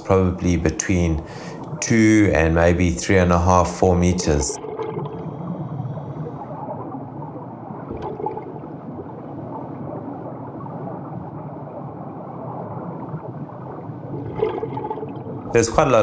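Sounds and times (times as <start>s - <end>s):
underwater rushing water: 0.0s - 16.0s.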